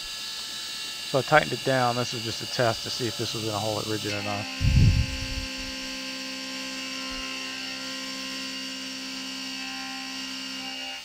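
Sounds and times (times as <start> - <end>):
milling machine spindle humming: 0.0 - 11.0.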